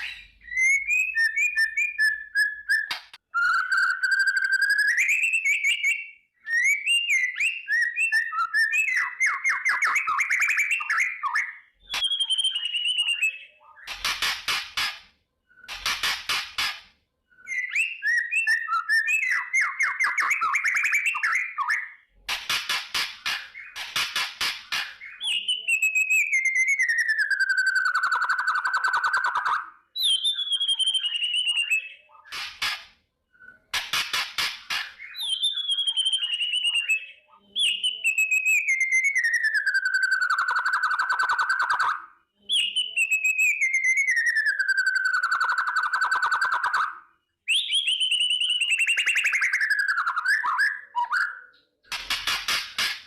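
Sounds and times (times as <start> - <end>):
bird whistling song: 0.0 - 53.0.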